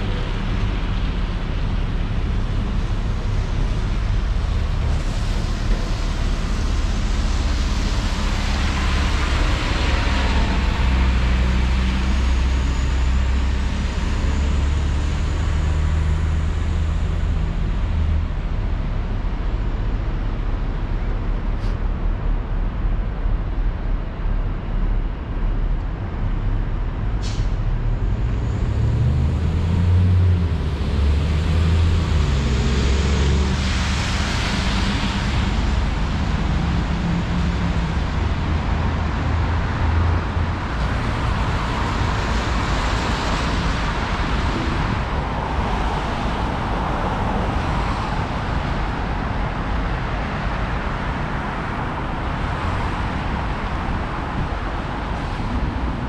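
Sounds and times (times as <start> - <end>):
tyres hissing on wet road: 0.1 - 18.1, 28.7 - 56.0.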